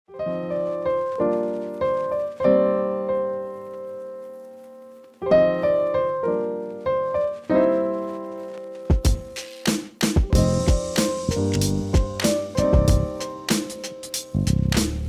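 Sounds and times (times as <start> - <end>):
piano chords: 0.1 - 15.0.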